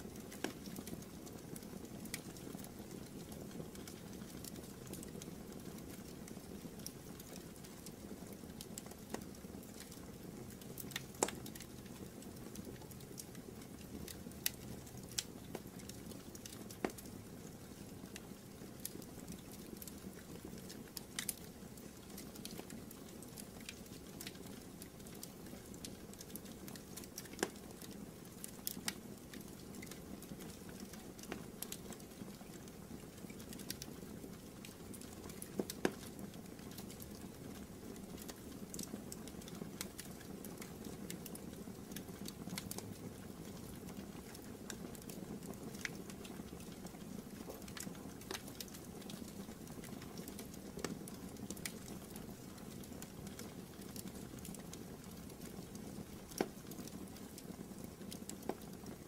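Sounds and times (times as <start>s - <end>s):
low rustle of flames: 0.0s - 59.0s
wood fire crackling and popping: 0.0s - 59.0s.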